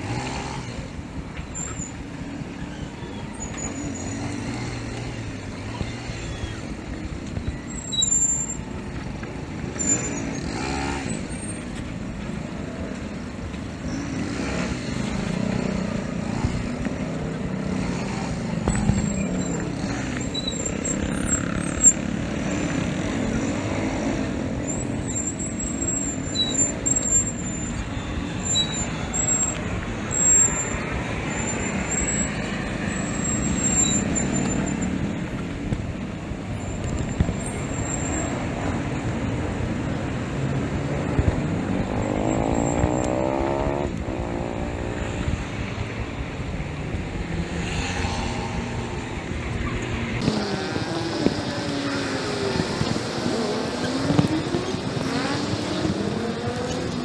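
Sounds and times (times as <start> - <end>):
road traffic rush: 0.0 - 57.0.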